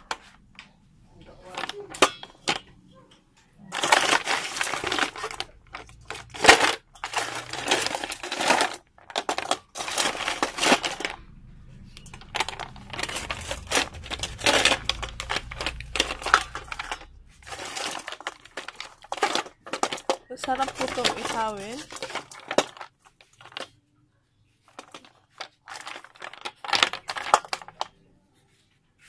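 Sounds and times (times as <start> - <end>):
clam shells clattering in metal bowl: 1.3 - 2.8, 3.6 - 23.8, 24.6 - 28.0.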